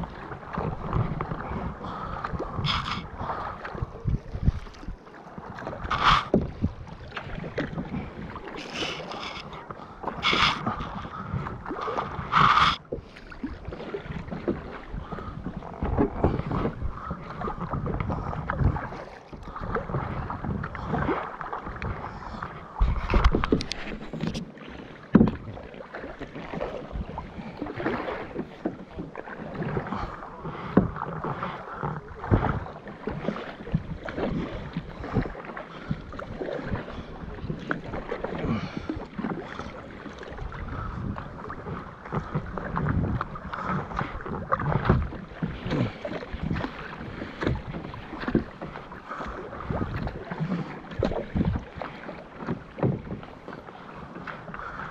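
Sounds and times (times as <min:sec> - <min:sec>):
wind buffeting microphone: 0:00.0 - 0:24.4, 0:26.5 - 0:54.9
paddle strokes splashing: 0:00.0 - 0:54.9.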